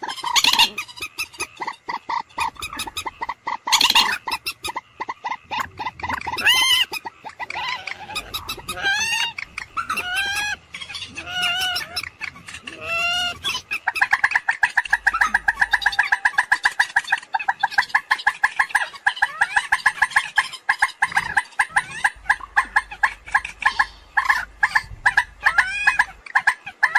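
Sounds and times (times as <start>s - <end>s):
moorhen calling: 0.0s - 26.9s.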